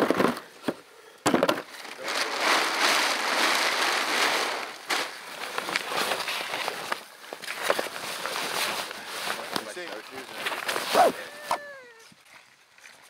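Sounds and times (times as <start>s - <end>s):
plastic tarp rustling: 0.0s - 12.2s.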